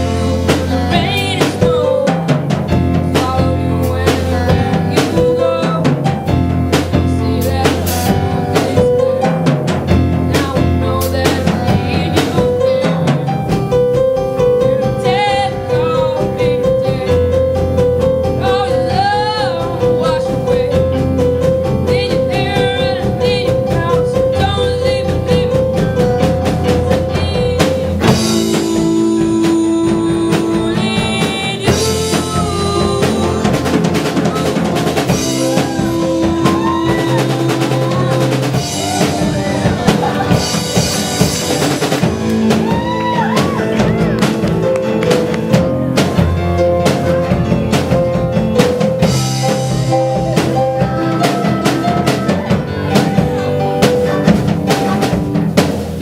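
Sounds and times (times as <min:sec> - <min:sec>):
band playing with drums and bass: 0:00.0 - 0:56.0.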